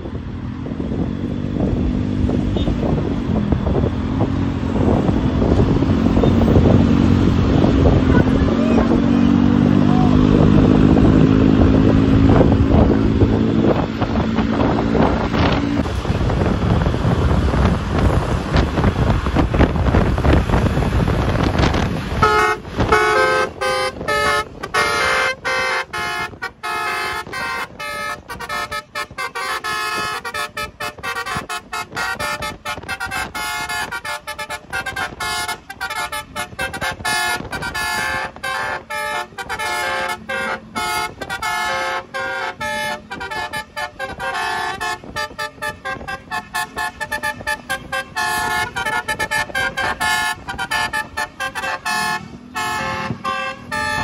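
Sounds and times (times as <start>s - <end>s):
wind on microphone: 0.0s - 54.0s
multi-tone bus horn melody: 1.6s - 54.0s.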